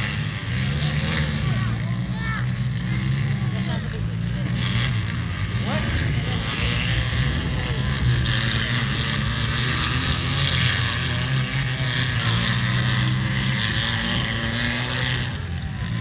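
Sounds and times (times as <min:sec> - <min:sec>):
car engines droning: 0:00.0 - 0:16.0.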